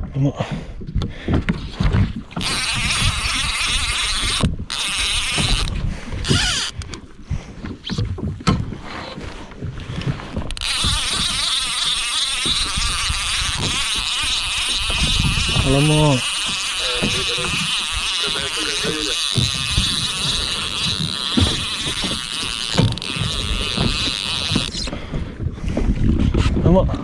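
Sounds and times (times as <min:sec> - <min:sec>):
wind noise: 0:00.0 - 0:18.7, 0:19.3 - 0:27.0.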